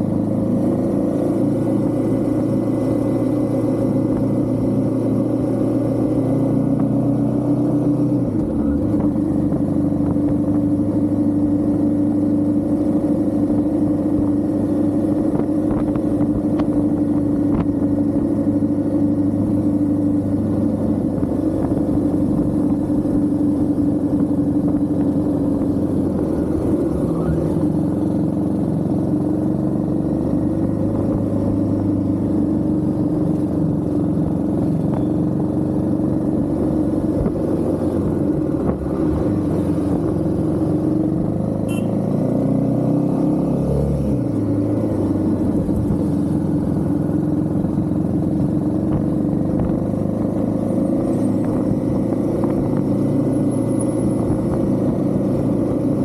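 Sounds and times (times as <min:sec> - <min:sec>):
motorcycle engine running: 0:00.0 - 0:43.3, 0:44.2 - 0:56.0.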